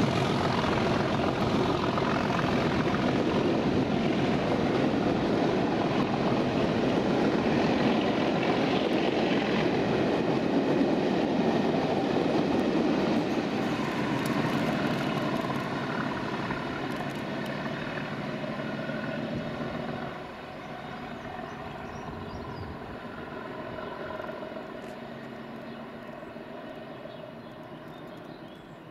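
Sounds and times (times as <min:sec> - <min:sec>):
diesel locomotive passing: 0:00.0 - 0:28.9.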